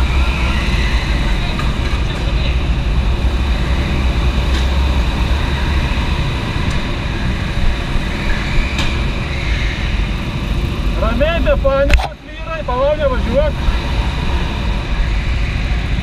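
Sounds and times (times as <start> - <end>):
go-kart engines rumbling: 0.0 - 16.0.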